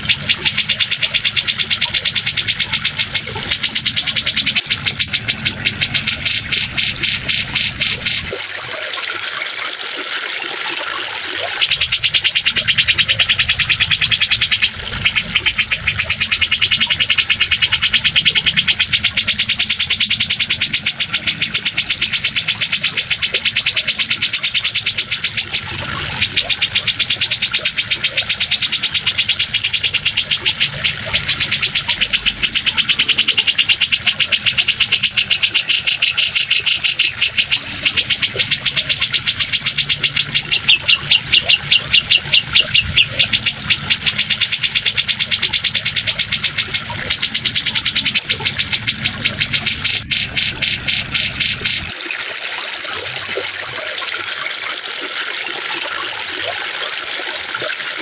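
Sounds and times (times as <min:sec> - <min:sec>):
bird trilling: 0:00.0 - 0:08.3, 0:11.5 - 0:51.9
rushing water: 0:00.0 - 0:58.0.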